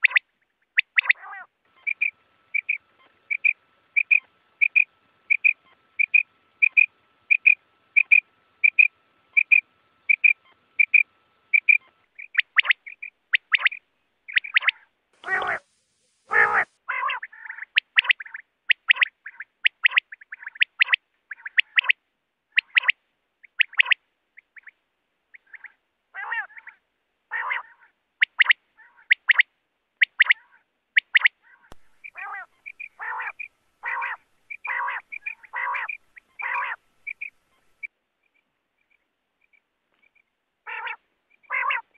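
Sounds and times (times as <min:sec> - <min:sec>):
quail calling: 0:00.0 - 0:15.7, 0:16.3 - 0:37.9, 0:40.6 - 0:41.9
low nasal bird notes: 0:00.0 - 0:25.8, 0:31.0 - 0:41.9.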